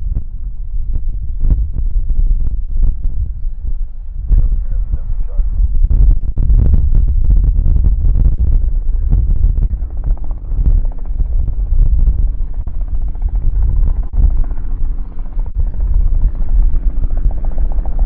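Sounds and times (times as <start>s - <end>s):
helicopter rotor beating: 1.6s - 18.0s.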